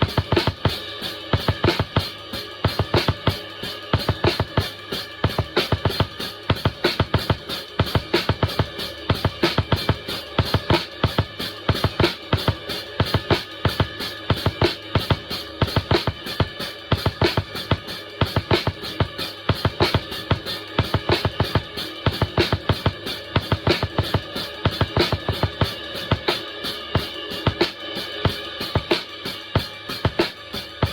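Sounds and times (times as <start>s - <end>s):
drum kit groove: 0.0s - 30.9s.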